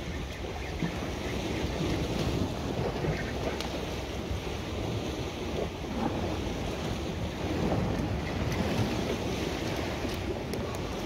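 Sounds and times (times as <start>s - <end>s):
sea waves against rocks: 0.0s - 11.0s
wind buffeting microphone: 0.0s - 11.0s.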